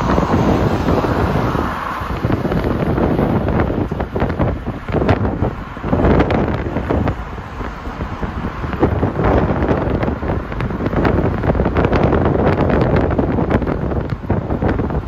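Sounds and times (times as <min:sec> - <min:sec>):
vehicle rumble on road: 0:00.0 - 0:15.0
wind buffeting microphone: 0:00.0 - 0:15.0.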